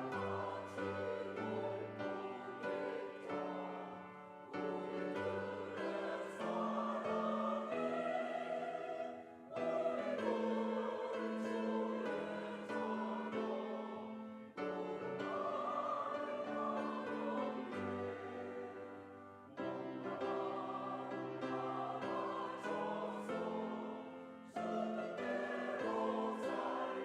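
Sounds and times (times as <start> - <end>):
choir singing in harmony: 0.0 - 27.0.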